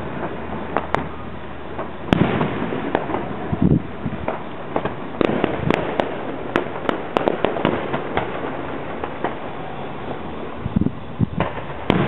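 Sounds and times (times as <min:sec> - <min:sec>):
deep firework boom: 0:00.0 - 0:12.0
firework bang: 0:00.0 - 0:12.0
sharp crackling pops: 0:00.0 - 0:12.0.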